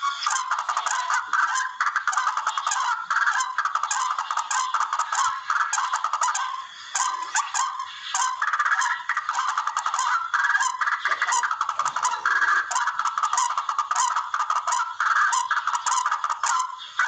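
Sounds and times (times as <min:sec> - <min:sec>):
bird calling harsh rapid notes: 0:00.0 - 0:17.0.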